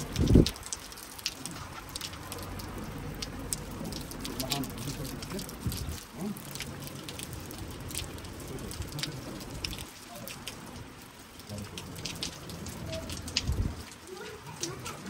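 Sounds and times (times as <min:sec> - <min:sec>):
raindrops ticking on surfaces: 0:00.0 - 0:15.0.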